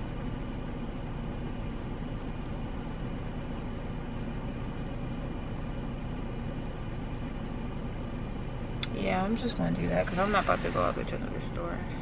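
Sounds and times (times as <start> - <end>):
car engine hum inside cabin: 0.0 - 12.0.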